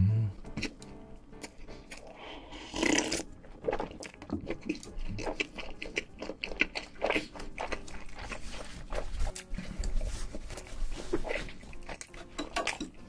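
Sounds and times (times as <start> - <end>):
chewing with mouth clicks: 0.5 - 13.0.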